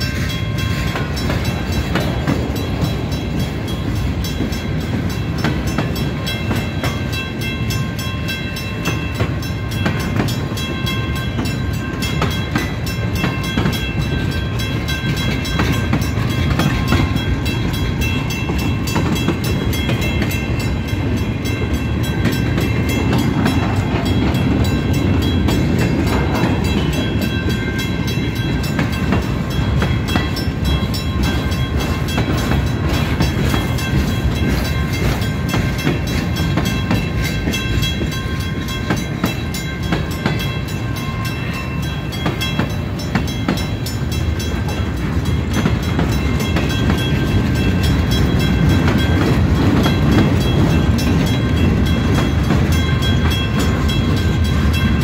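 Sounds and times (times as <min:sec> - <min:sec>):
train wheels rumbling and clicking: 0:00.0 - 0:55.0.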